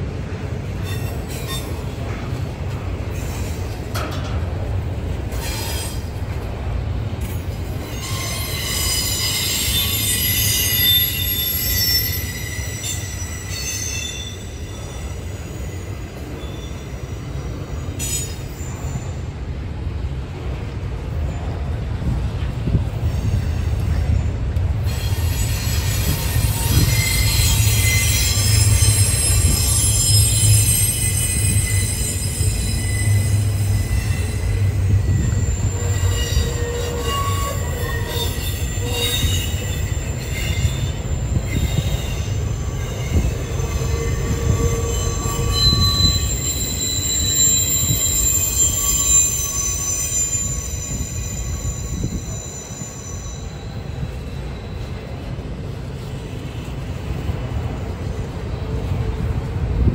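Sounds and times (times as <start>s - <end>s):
steel wheels rumbling on rail: 0.0s - 59.9s
high-pitched wheel squeals: 0.8s - 1.9s, 5.3s - 6.1s, 7.6s - 19.3s, 23.0s - 58.4s.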